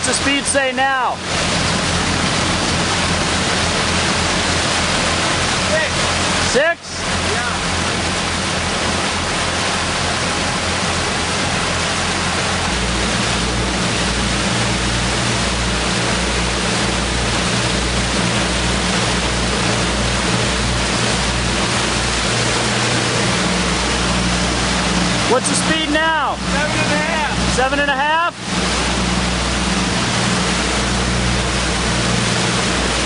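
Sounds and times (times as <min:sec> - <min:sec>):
boat engine droning: 0:00.0 - 0:33.0
water churning: 0:00.0 - 0:33.0.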